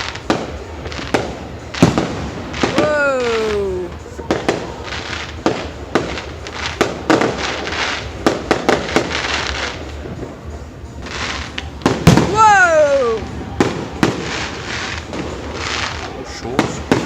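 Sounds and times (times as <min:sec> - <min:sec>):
fireworks banging and cracking: 0:00.0 - 0:17.0
fireworks crackling: 0:00.0 - 0:17.0.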